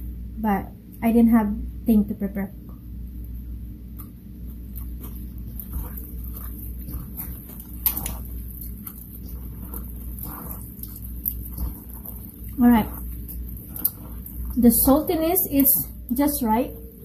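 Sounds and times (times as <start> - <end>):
steady low hum: 0.0 - 17.0
wet squelching of kimchi mixing: 3.2 - 17.0.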